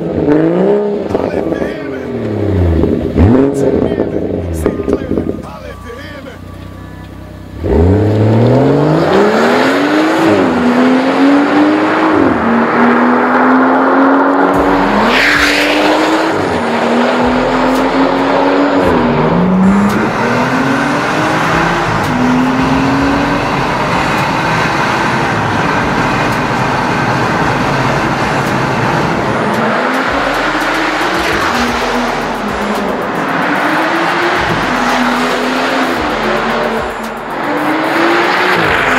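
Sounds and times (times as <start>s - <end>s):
car engine accelerating hard: 0.0s - 5.4s, 7.4s - 38.9s.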